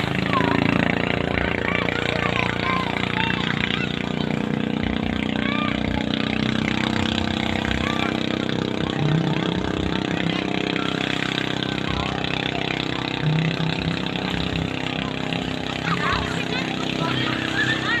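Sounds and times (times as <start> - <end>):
faint voices of people: 0.0 - 18.0
small boat engine droning: 0.0 - 18.0.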